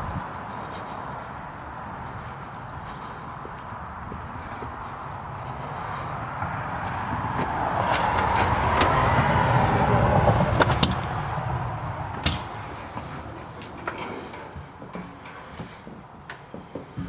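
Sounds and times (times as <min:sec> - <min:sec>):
road vehicle passing by: 0:00.0 - 0:16.6.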